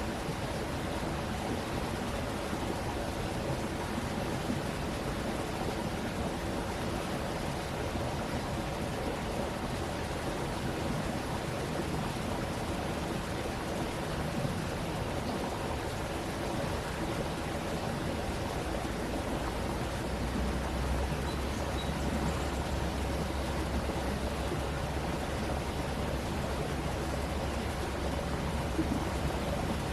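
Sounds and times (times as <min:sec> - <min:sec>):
stream water flowing and splashing: 0:00.0 - 0:29.9.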